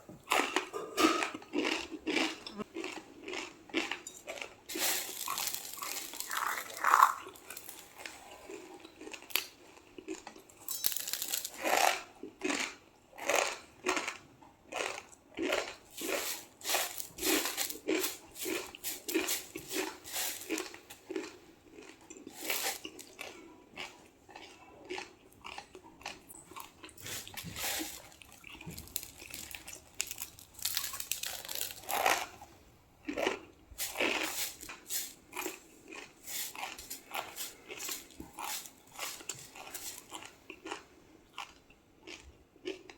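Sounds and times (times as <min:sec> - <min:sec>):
crisp shells crunching when chewed: 0:01.4 - 0:32.4, 0:33.0 - 0:42.9.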